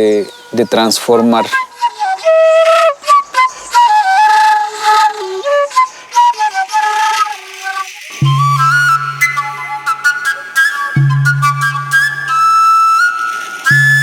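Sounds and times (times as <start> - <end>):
breathy flute melody: 0.3 - 14.0.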